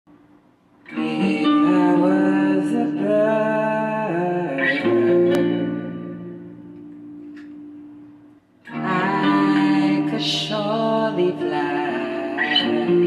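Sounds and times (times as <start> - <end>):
guitar playing slow chords: 0.8 - 13.0.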